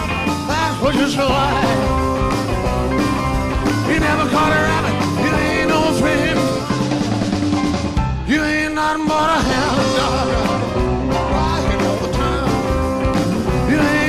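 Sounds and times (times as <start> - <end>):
live rock and roll band: 0.0 - 14.0.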